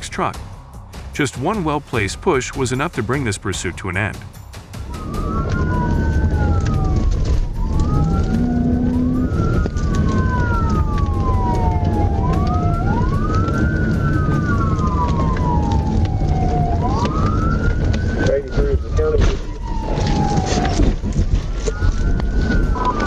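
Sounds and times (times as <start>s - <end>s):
police sirens wailing: 1.2s - 4.1s, 4.7s - 23.0s
low rumble: 4.4s - 23.0s.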